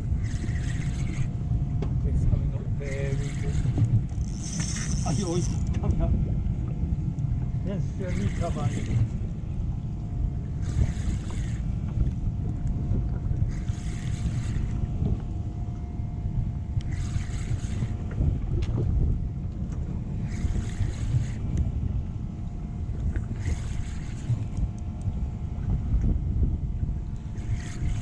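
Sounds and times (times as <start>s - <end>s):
water washing against hull: 0.0s - 28.0s
wind rumbling on microphone: 0.0s - 28.0s.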